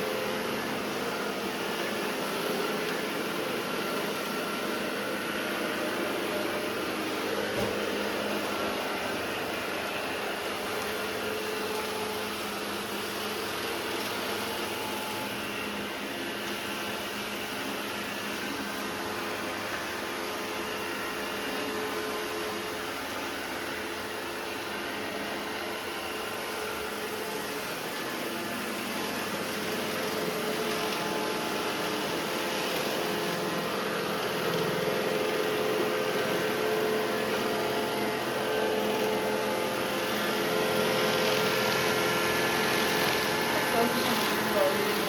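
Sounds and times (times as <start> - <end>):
robot vacuum cleaner running: 0.0 - 45.0.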